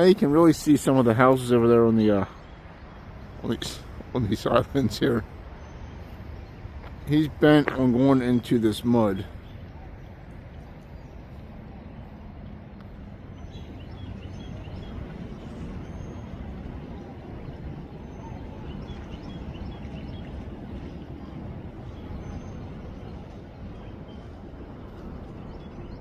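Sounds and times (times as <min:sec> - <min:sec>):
low outdoor rumbling: 0:00.0 - 0:26.0.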